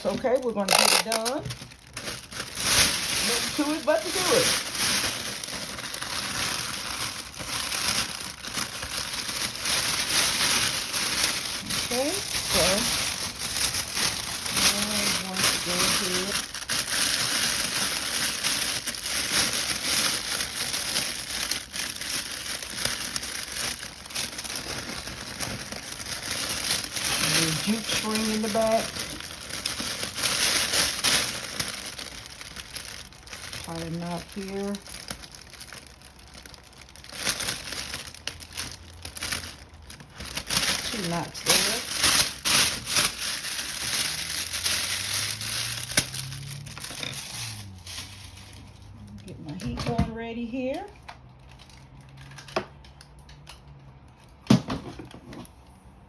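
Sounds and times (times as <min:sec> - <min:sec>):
plastic shrink-wrap crinkling: 0:00.0 - 0:54.4.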